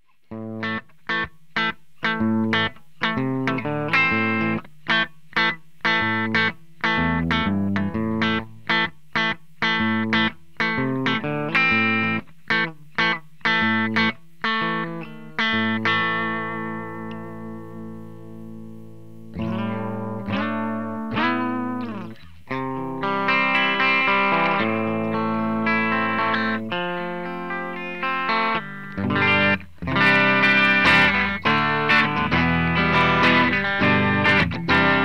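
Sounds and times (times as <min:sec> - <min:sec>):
electric guitar chords: 0:00.3 - 0:35.0.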